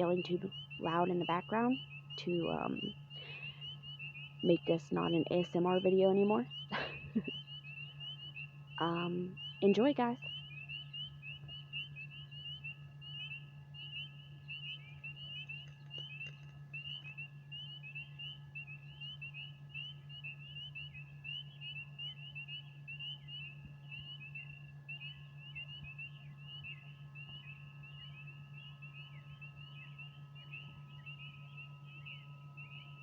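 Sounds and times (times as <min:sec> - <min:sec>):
frogs chirping: 0:00.0 - 0:33.0
steady low hum: 0:00.0 - 0:33.0.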